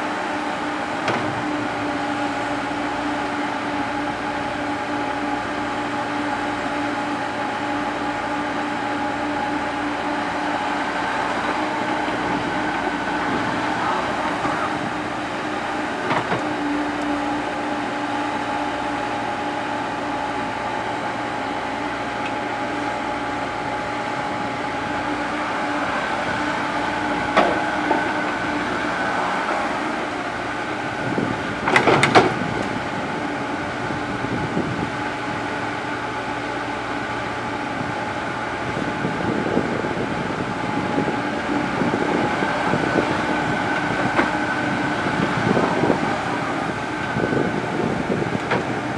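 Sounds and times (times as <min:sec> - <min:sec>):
excavator engine and hydraulics droning: 0:00.0 - 0:48.9.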